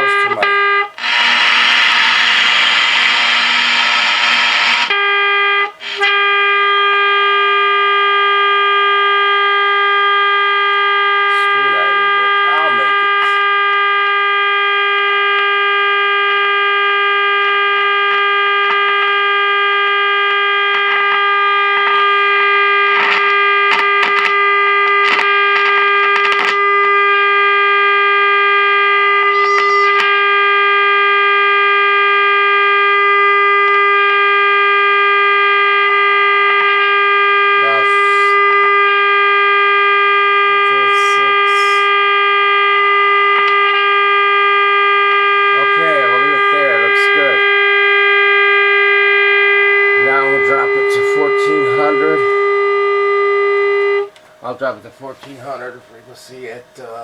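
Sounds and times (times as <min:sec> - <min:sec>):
radio crackle bursts: 0:00.0 - 0:57.0
test tone from radio speaker: 0:00.0 - 0:57.0.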